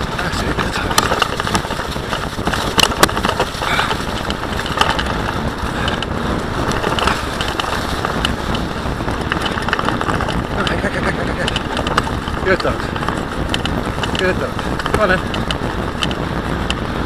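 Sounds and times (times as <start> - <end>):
bicycle tyres rumbling on trail: 0.0 - 17.0
bike clicks and rattles: 0.0 - 17.0.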